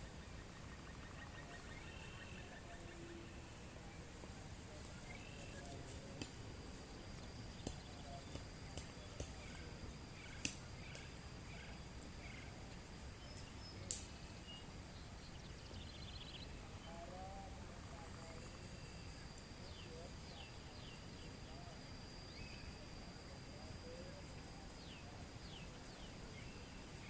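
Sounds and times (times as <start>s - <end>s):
birds chirping: 0.0s - 22.9s
steady high whine: 0.0s - 27.0s.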